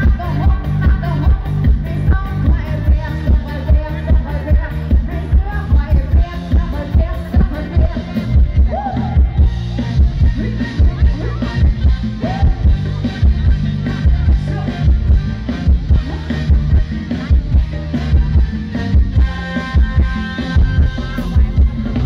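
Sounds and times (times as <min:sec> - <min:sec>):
heavy bass drum beating: 0:00.0 - 0:22.0
live band playing dance music: 0:00.0 - 0:22.0.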